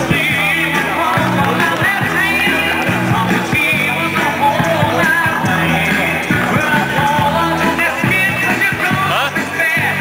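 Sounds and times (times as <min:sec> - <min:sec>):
rock music with singer: 0:00.0 - 0:10.0
steady bass line: 0:00.0 - 0:10.0.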